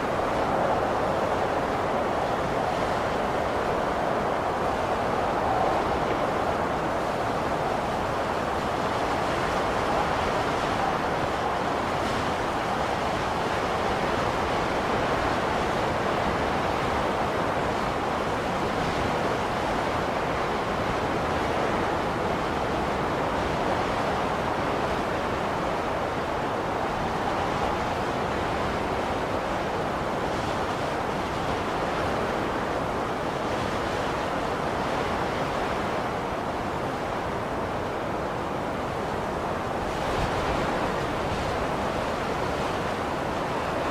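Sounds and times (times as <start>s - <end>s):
blizzard wind blowing: 0.0s - 43.9s.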